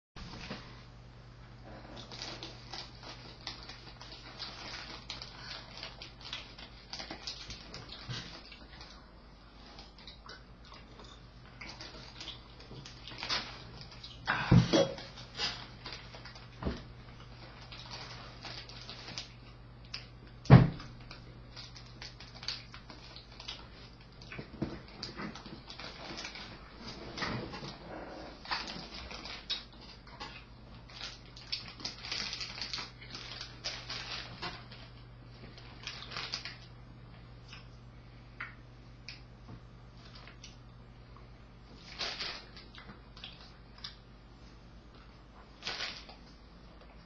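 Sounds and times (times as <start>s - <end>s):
steady low hum: 0.2s - 47.0s.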